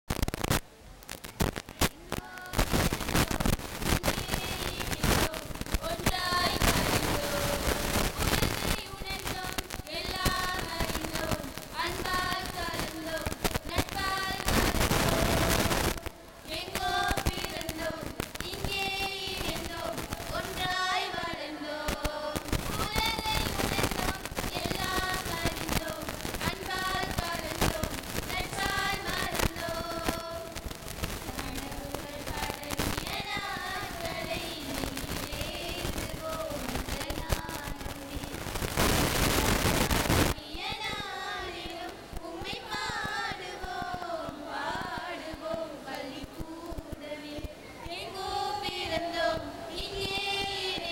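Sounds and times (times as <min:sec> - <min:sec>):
crackling clicks: 0:00.0 - 0:50.9
loud burst of noise: 0:00.1 - 0:45.6
girls singing in unison: 0:01.8 - 0:38.5, 0:40.3 - 0:50.9.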